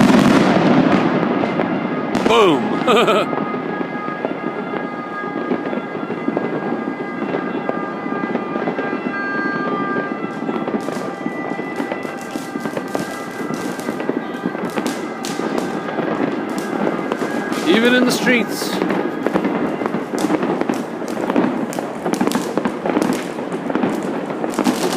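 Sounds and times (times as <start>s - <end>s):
fireworks popping and crackling: 0.0s - 24.9s.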